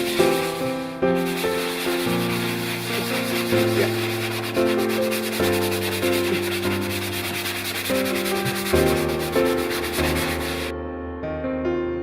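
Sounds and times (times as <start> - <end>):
fast hissing shaker rhythm: 0.0 - 10.7.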